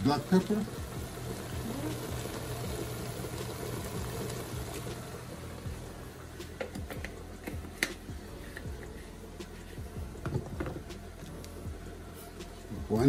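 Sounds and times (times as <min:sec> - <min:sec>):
meat cooking in a pot: 0:00.0 - 0:13.0.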